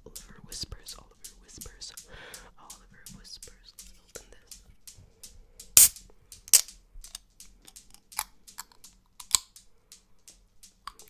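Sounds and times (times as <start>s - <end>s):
fingers tapping metal can: 0.0s - 11.0s.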